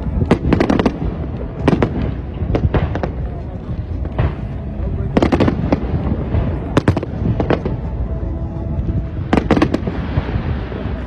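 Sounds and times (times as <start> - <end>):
fireworks bangs and crackles: 0.0 - 11.0
steady low rumble: 0.0 - 11.0.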